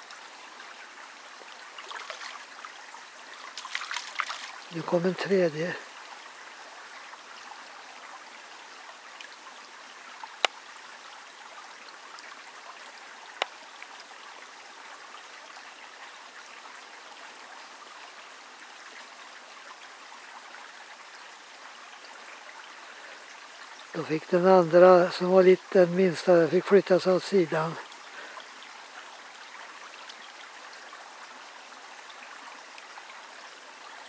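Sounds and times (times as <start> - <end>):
stream water running over stones: 0.0 - 34.0.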